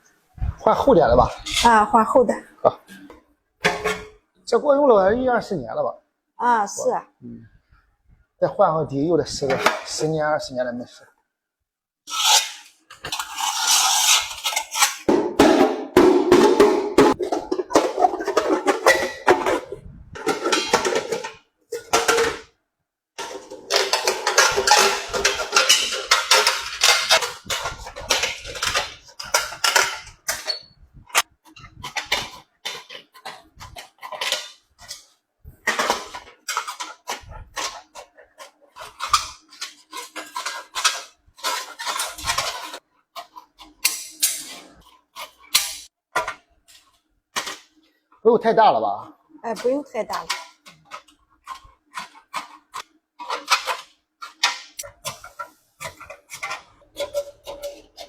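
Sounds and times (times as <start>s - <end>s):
metal pot clattering and scraping: 1.2s - 2.2s, 2.9s - 4.3s, 9.4s - 10.1s, 12.1s - 22.6s, 23.2s - 47.7s, 49.5s - 58.0s.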